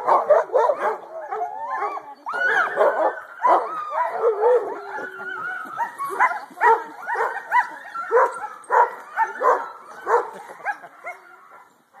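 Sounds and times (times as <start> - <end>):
sled dogs yelping and barking: 0.0 - 12.0.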